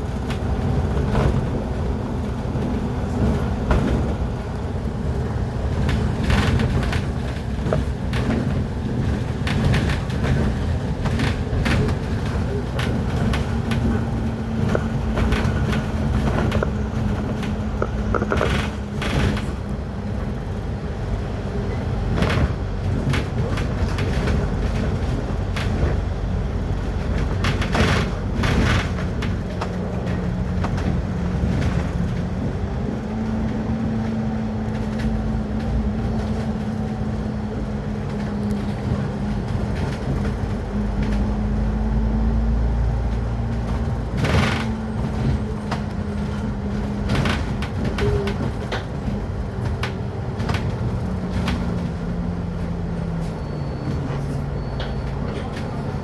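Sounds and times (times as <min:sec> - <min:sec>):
low road rumble: 0:00.0 - 0:56.0
vehicle engine hum: 0:00.0 - 0:56.0.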